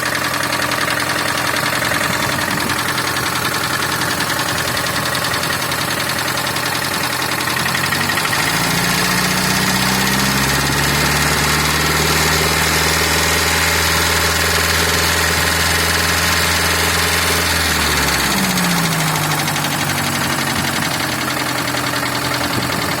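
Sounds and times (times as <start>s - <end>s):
van engine knocking: 0.0s - 23.0s.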